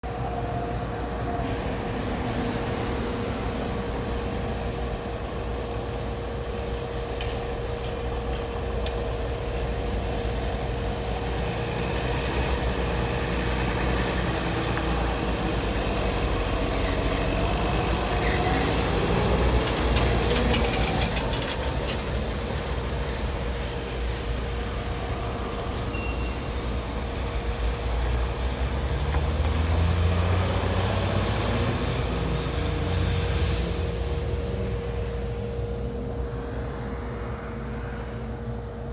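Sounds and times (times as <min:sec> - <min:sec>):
heavy vehicle engines rumbling: 0:00.0 - 0:38.9.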